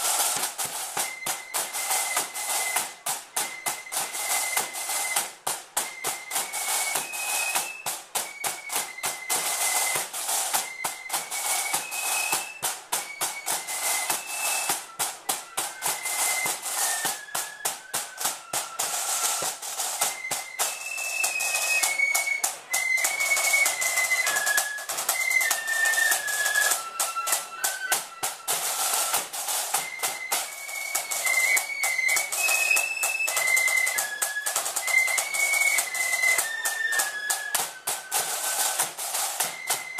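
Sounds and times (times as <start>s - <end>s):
flute melody: 0.0s - 39.9s
snare drum rolls: 0.0s - 39.9s.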